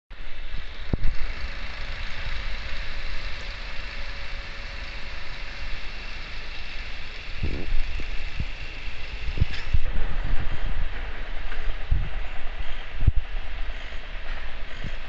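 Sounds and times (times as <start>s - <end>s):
engine running: 0.1s - 15.0s.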